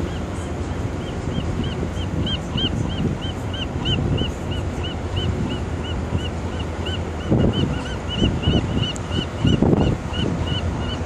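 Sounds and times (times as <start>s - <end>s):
wind on microphone: 1.2s - 6.4s, 7.0s - 11.0s.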